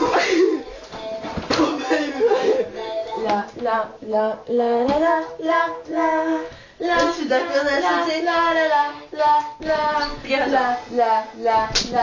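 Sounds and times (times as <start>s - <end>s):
woman singing: 0.1s - 12.0s.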